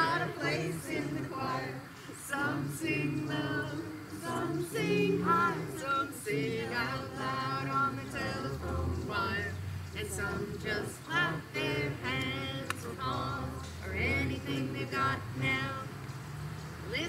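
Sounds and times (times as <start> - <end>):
congregation singing unaccompanied: 0.0 - 17.0.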